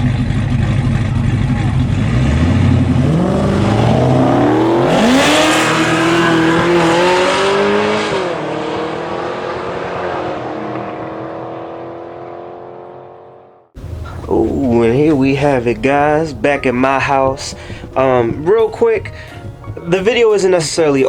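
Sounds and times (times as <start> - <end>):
drag race car engine: 0.0 - 21.0.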